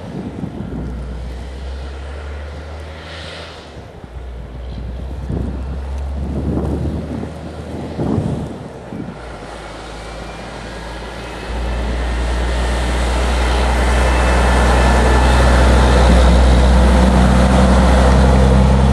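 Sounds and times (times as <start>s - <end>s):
diesel truck engine passing: 0.0s - 18.9s
plow blade pushing snow: 0.0s - 18.9s.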